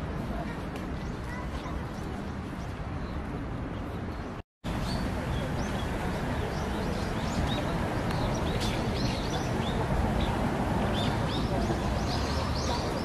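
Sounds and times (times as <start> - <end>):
outdoor background murmur: 0.0 - 13.0
birds chirping: 1.0 - 13.0.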